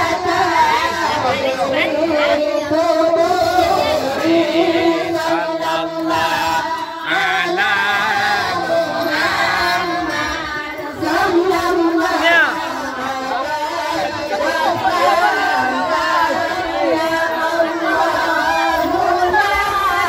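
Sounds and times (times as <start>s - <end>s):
group of voices chanting: 0.0s - 20.0s.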